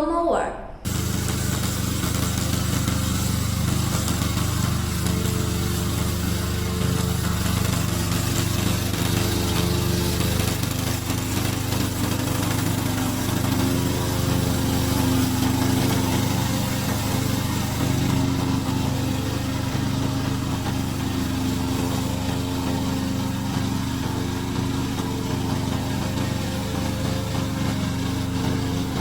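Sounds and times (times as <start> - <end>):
mower engine droning: 0.8 - 29.0.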